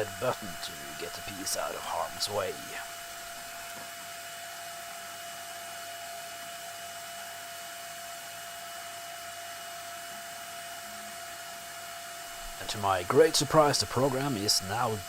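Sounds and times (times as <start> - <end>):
machine whirring with high whine: 0.0 - 15.0.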